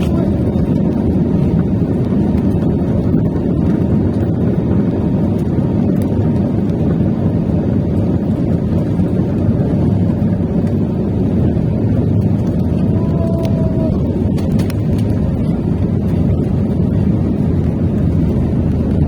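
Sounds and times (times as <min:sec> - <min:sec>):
airliner taking off: 0:00.0 - 0:19.0.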